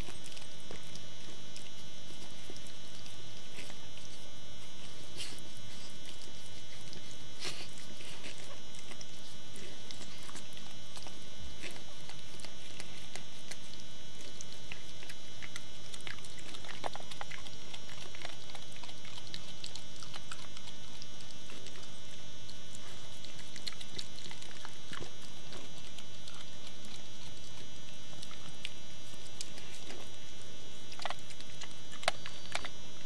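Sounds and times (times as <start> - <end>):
dog licking puppy: 0.0 - 33.0
tape hiss: 0.0 - 33.0.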